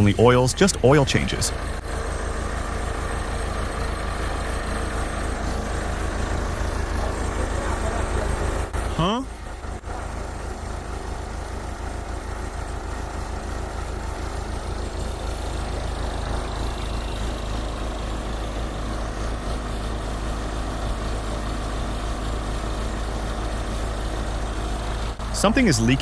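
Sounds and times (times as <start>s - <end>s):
backhoe engine running: 0.0s - 26.0s.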